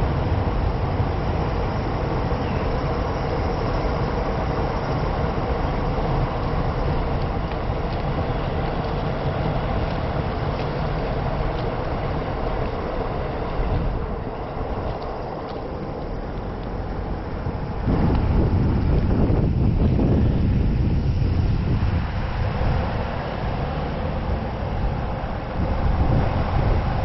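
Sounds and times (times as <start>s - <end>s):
low rumble of vehicles: 0.0s - 27.0s.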